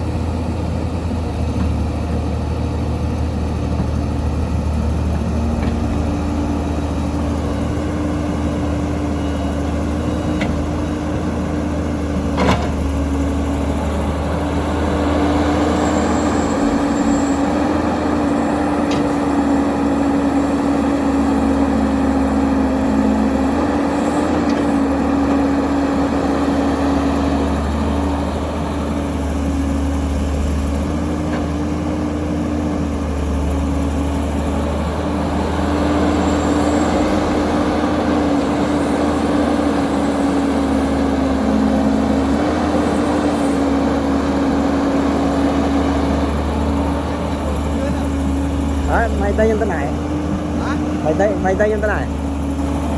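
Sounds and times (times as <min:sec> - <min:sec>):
heavy diesel engines running: 0:00.0 - 0:52.9.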